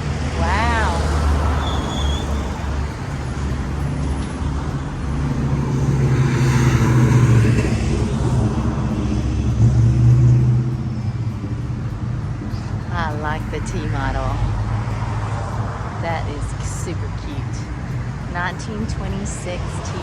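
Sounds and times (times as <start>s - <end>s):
cars driving past: 0.0s - 20.0s.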